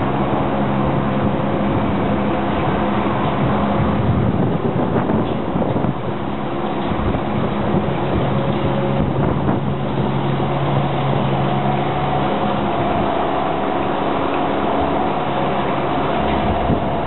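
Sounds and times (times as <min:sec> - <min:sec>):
scissor lift engine running: 0:00.0 - 0:17.0.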